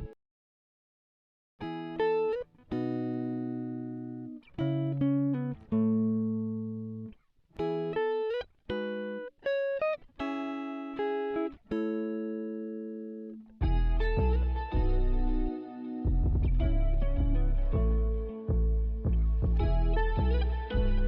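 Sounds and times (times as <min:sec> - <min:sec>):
guitar chords ringing: 0:01.6 - 0:21.0.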